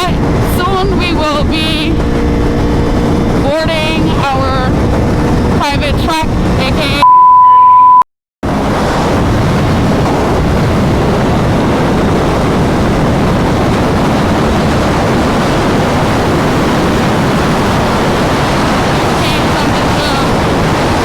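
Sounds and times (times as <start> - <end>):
wind and road noise: 0.0 - 7.0, 8.4 - 21.0.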